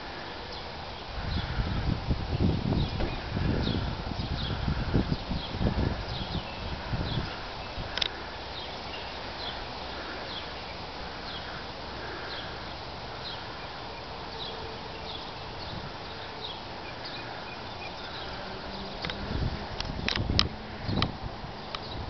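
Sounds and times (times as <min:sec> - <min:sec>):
outdoor hiss: 0:00.0 - 0:22.0
bird chirping: 0:02.3 - 0:20.2.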